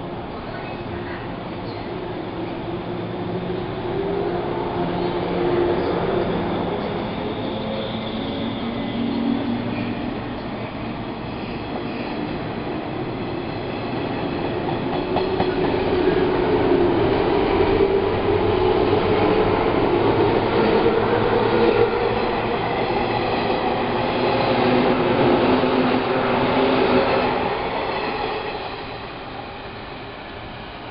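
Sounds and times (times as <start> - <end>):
electric train passing with hum: 0.0 - 30.9.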